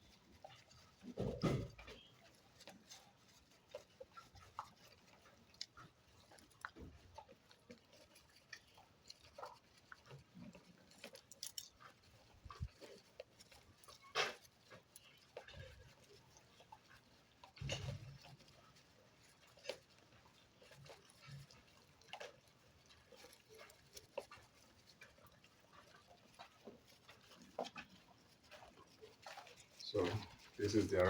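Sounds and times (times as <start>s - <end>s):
goats eating from trough: 0.0s - 31.0s.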